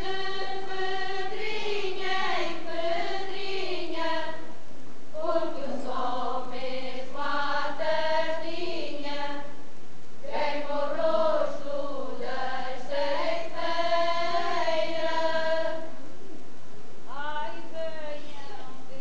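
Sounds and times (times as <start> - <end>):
choir singing folk song: 0.0 - 9.6, 10.2 - 16.1.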